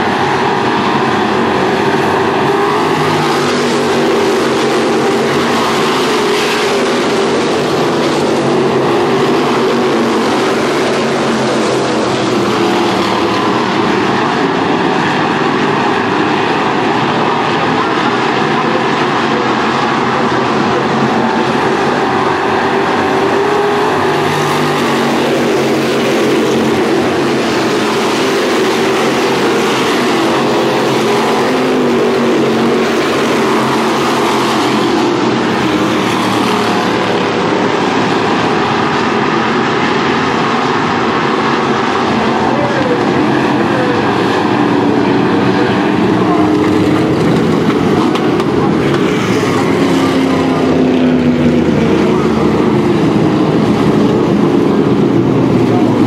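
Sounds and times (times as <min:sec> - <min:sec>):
race car engines at speed: 0:00.0 - 0:56.0.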